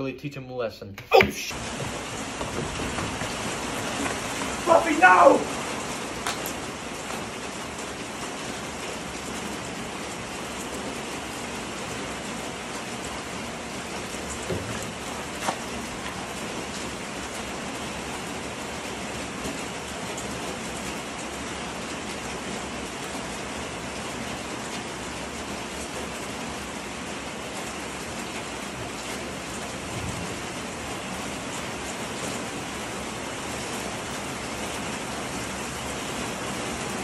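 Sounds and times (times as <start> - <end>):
steady rain falling: 1.2 - 37.0.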